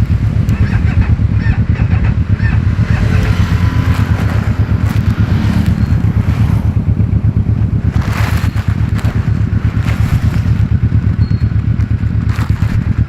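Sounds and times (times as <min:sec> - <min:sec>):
motorcycle engine deep pulsing: 0:00.0 - 0:13.0
wind on microphone: 0:00.0 - 0:13.0.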